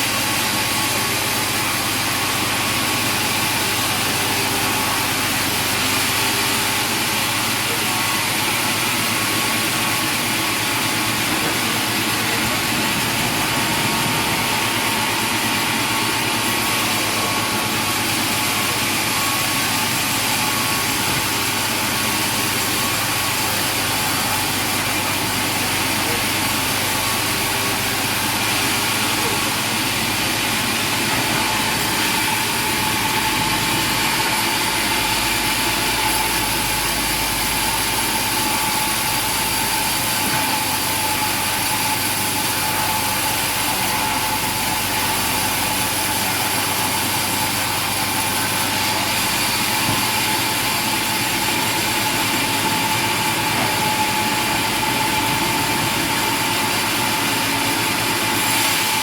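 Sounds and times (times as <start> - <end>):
high machine whine: 0.0 - 59.0
sawmill machinery drone: 0.0 - 59.0.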